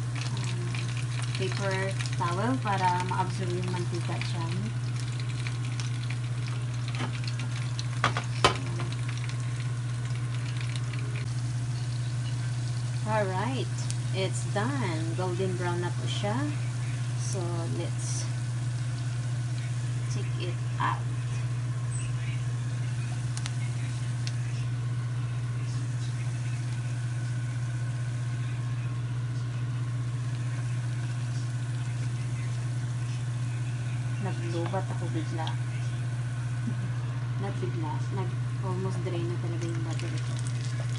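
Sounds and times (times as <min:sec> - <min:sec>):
food sizzling in hot oil: 0:00.0 - 0:36.6, 0:37.5 - 0:40.9
low hum: 0:00.0 - 0:40.9.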